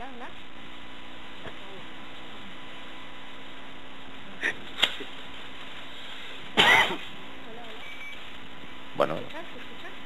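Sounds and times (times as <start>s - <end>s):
hiss and mains hum: 0.0s - 10.0s.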